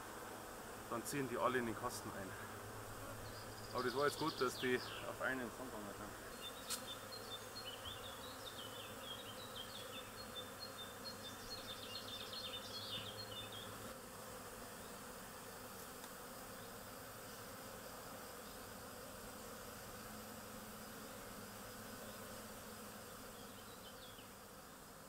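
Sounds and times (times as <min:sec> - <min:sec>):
bees humming: 0:00.0 - 0:25.0.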